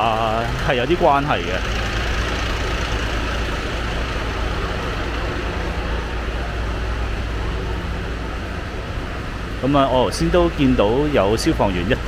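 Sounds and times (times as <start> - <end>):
heavy vehicle engine idling: 0.0 - 12.0
street noise: 0.0 - 12.0.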